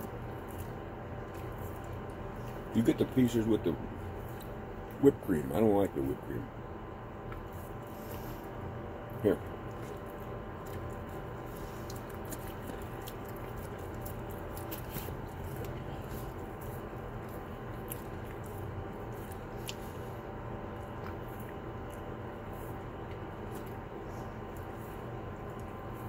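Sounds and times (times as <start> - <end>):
dog chewing and smacking lips: 0.0 - 5.6, 7.2 - 26.0.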